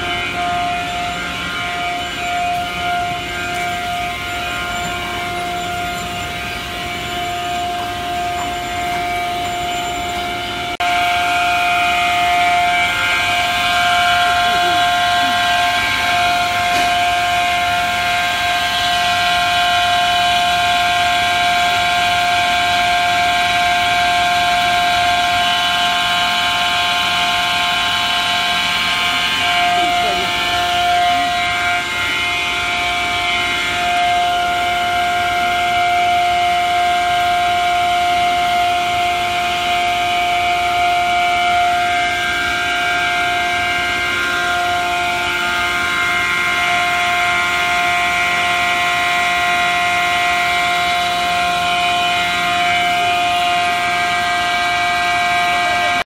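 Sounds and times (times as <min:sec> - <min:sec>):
machine whine: 0:00.0 - 0:56.0.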